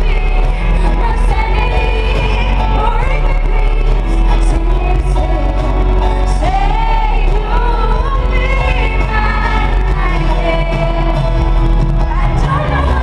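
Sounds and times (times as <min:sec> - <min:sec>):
band with heavy bass: 0:00.0 - 0:13.0
woman singing amplified: 0:00.0 - 0:13.0.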